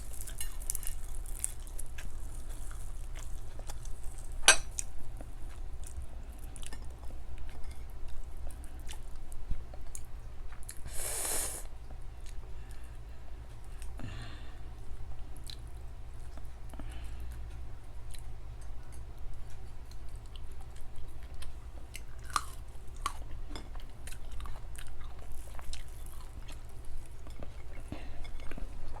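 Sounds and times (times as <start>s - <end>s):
chewing and crunching food: 0.0s - 29.0s.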